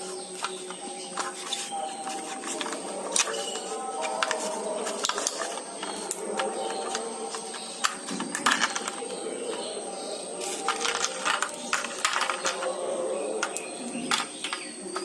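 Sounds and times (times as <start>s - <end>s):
small hard objects clicking: 0.0s - 9.8s, 10.4s - 15.0s.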